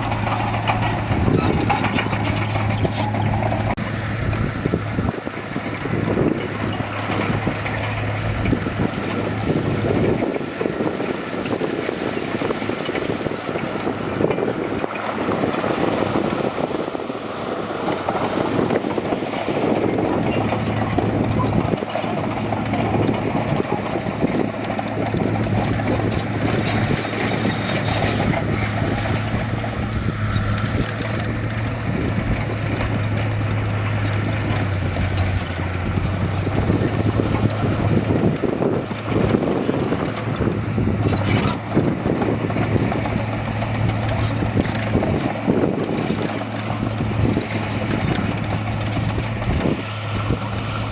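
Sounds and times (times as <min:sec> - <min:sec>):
clanking and rattling: 0:00.0 - 0:50.9
heavy diesel machinery running: 0:00.0 - 0:50.9.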